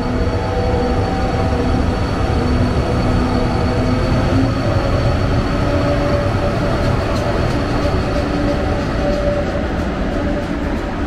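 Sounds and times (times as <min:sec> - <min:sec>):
train rail rumble: 0:00.0 - 0:11.0.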